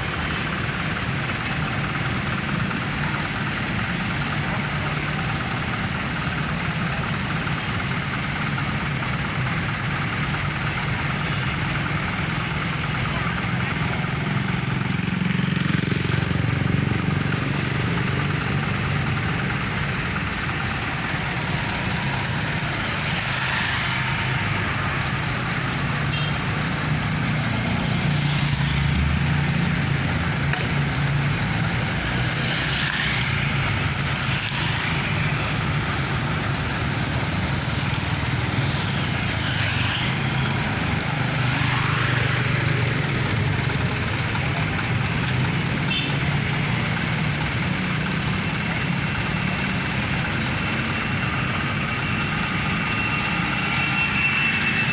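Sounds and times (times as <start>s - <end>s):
diesel engines rumbling: 0.0s - 54.9s
vehicles passing by: 0.0s - 54.9s.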